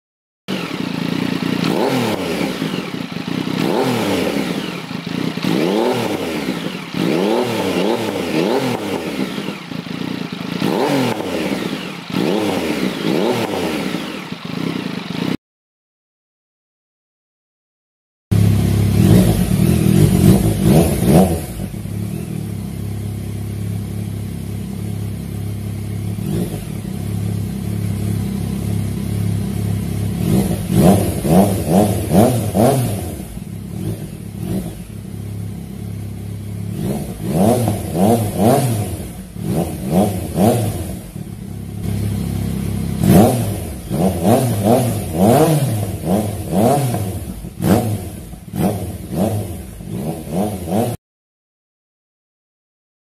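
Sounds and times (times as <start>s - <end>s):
motorcycle engine revving: 0.5s - 15.4s, 18.3s - 51.0s.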